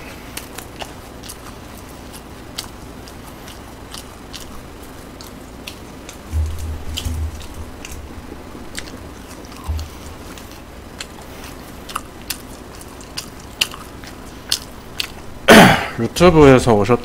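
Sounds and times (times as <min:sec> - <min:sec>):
chewing with mouth clicks: 0:00.0 - 0:15.3.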